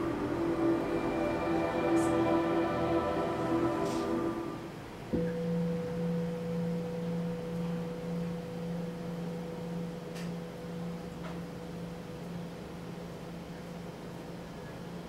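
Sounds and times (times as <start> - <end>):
steady low meditation hum: 0.0 - 15.0.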